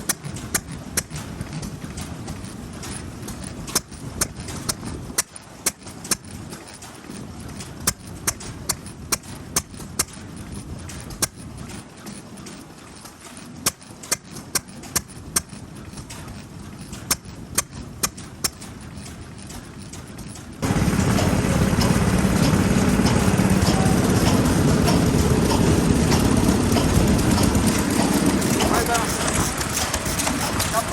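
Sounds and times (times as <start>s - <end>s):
stationary engine rumbling: 0.0s - 30.9s.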